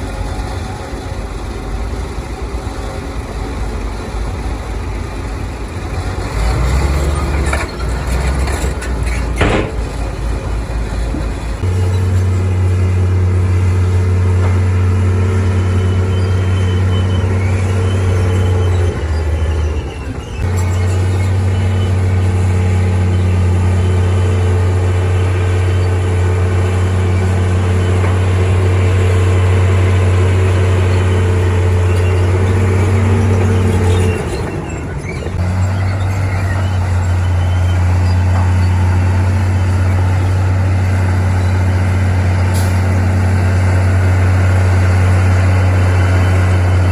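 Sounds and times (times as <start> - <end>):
bulldozer diesel engine droning: 0.0 - 46.9.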